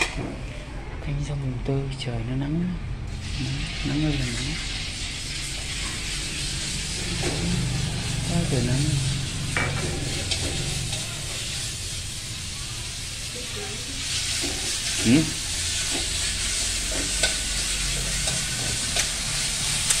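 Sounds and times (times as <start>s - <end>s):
meat sizzling in a wok: 3.1s - 20.0s.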